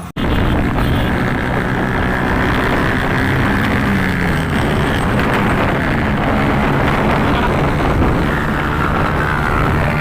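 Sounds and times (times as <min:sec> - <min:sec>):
motorcycle engine drone: 0:00.0 - 0:10.0
wind and road noise: 0:00.0 - 0:10.0.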